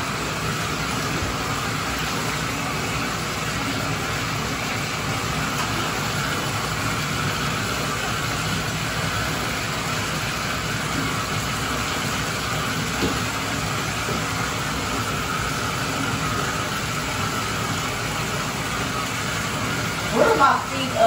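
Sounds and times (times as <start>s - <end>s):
faucet water pouring into tub: 0.0s - 21.0s.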